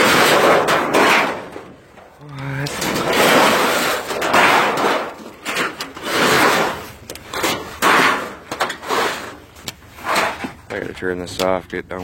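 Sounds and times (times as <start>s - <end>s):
scrap metal siding clattering: 0.0s - 10.8s.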